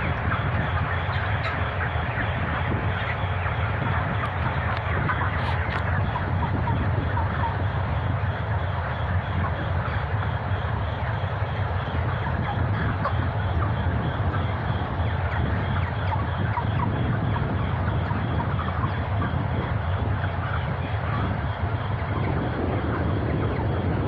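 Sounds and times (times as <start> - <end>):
chickens peeping and clucking: 0.0 - 24.0
ventilation fans humming: 0.0 - 24.0.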